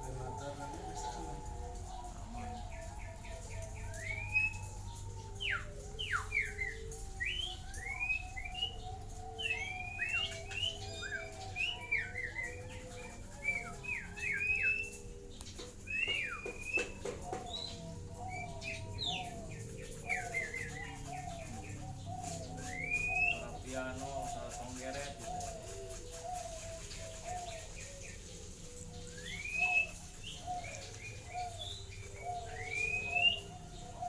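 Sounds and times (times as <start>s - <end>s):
doves cooing: 0.0s - 34.0s
small birds chirping: 0.0s - 34.0s.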